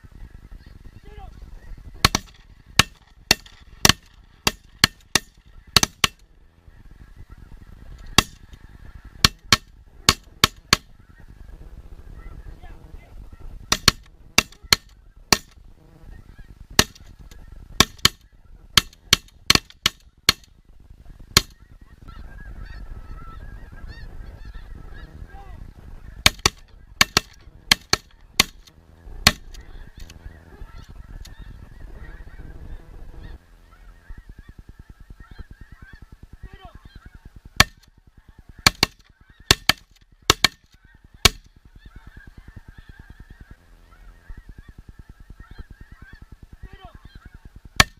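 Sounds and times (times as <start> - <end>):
snow geese honking: 0.0 - 47.9.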